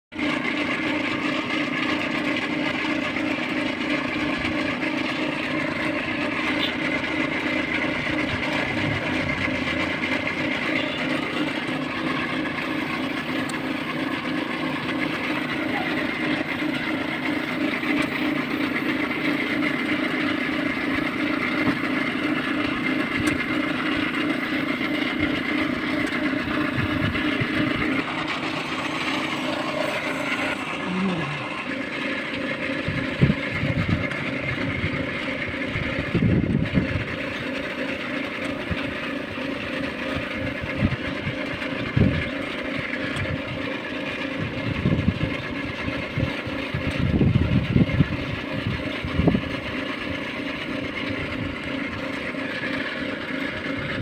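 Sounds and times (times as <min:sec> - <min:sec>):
steady machine hum: 0:00.1 - 0:54.0.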